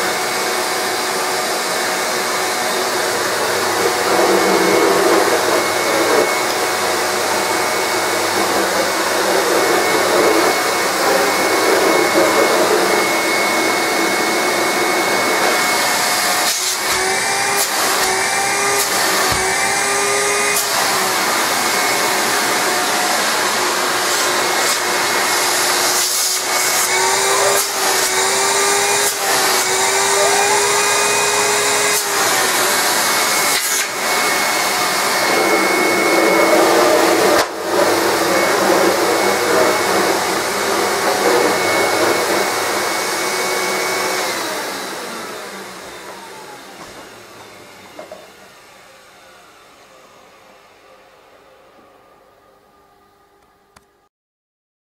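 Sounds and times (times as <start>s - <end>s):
vacuum cleaner whining: 0.0s - 54.1s.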